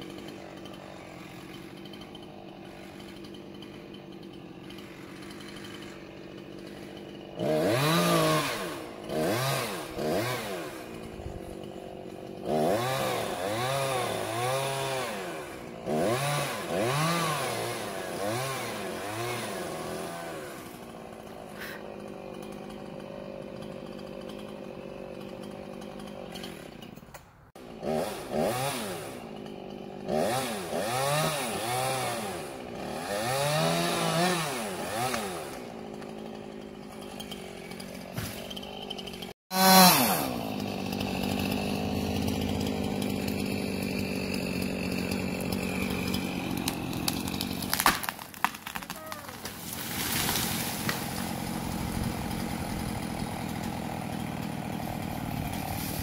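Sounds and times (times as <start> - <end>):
chainsaw revving and idling: 0.0 - 56.0.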